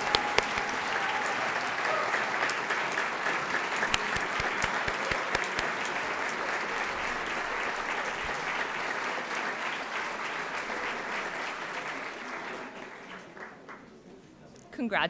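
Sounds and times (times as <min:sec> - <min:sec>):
audience applauding: 0:00.0 - 0:14.0
close hands clapping: 0:00.0 - 0:14.0.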